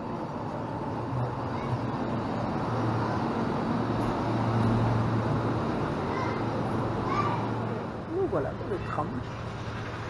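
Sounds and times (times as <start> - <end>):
tram motor hum: 0.0 - 10.0
tram rolling noise: 0.0 - 10.0.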